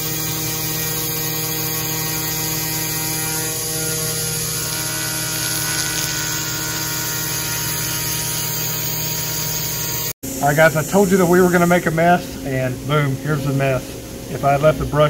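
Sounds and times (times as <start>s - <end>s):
cnc router spindle whine: 0.0s - 14.2s
end mill cutting metal hiss: 0.0s - 15.0s.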